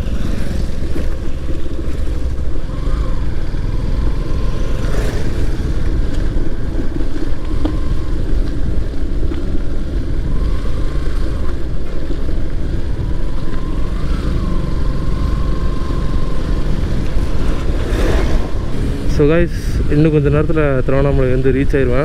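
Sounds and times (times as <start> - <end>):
motorcycle engine and wind rush: 0.0 - 22.0.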